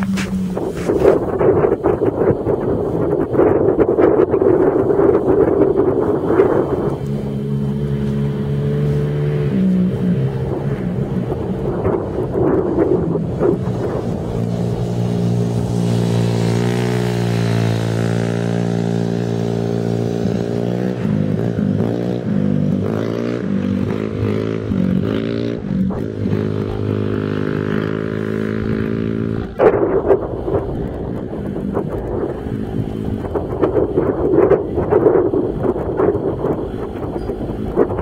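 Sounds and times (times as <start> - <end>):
motor engine running: 0.0 - 38.0.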